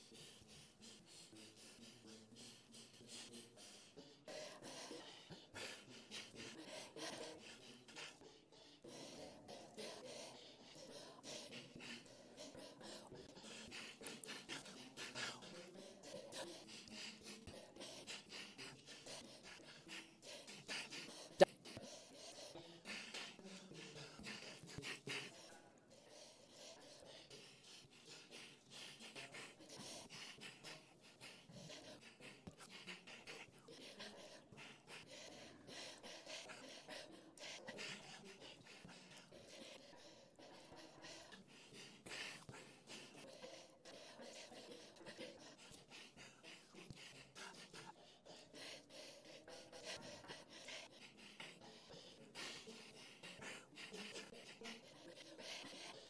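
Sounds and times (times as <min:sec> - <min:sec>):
breaths and quick inhalations: 0:00.0 - 0:56.0.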